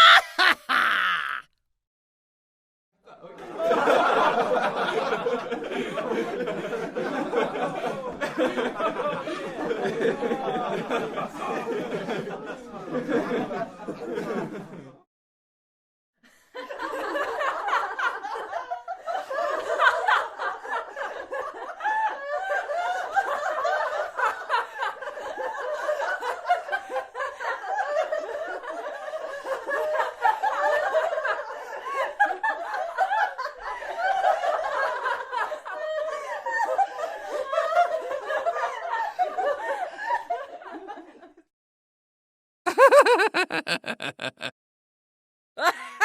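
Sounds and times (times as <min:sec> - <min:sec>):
people laughing: 0:00.0 - 0:01.4, 0:03.1 - 0:15.0, 0:16.6 - 0:41.5, 0:42.7 - 0:44.6, 0:45.6 - 0:46.0.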